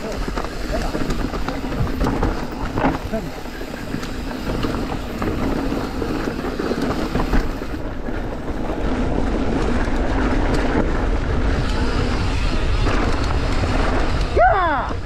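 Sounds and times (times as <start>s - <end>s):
bike tyres rolling over rocks: 0.0s - 15.0s
wind on microphone: 0.0s - 15.0s.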